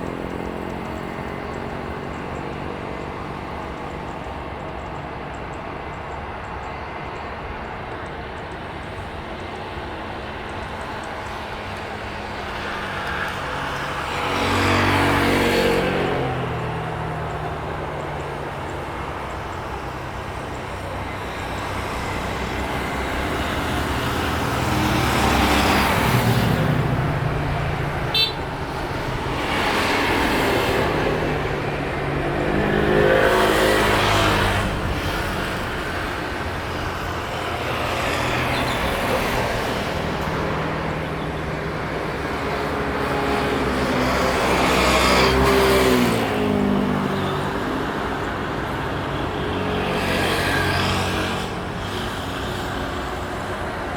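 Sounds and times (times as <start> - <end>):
vehicles driving past: 0.0 - 53.9.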